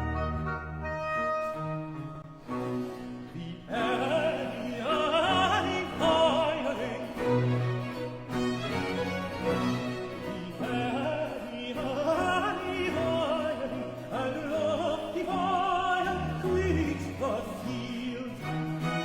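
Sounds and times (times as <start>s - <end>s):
countertenor singing with vibrato: 0.0s - 19.0s
string band with violins: 0.0s - 19.0s.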